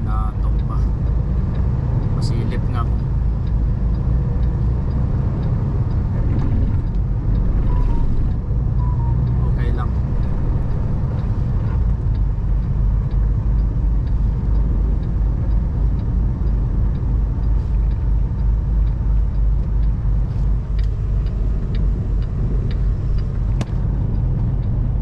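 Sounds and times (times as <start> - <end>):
high wind: 0.0 - 25.0
light ticking: 0.0 - 25.0
truck engine rumble: 0.0 - 25.0.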